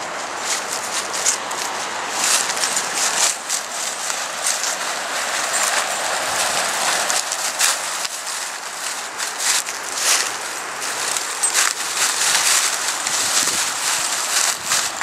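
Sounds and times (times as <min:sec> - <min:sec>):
dry leaves crunching underfoot: 0:00.0 - 0:15.0.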